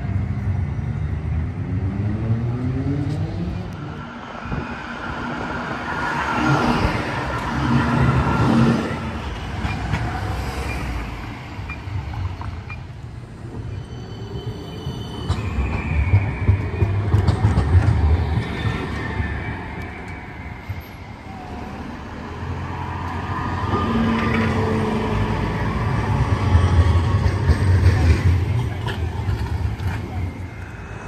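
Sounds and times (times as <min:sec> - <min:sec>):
tram rumble and electric whine: 0:00.0 - 0:31.0
tram wheels rumbling close by: 0:00.0 - 0:31.0.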